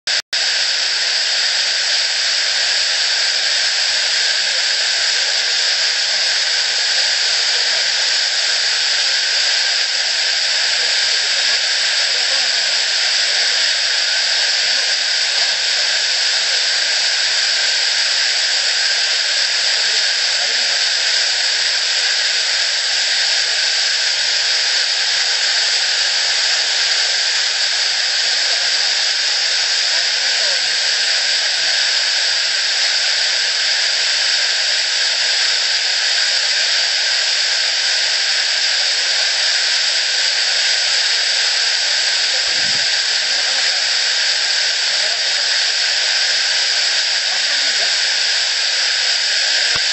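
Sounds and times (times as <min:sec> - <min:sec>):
waterfall rushing: 0:00.1 - 0:49.9.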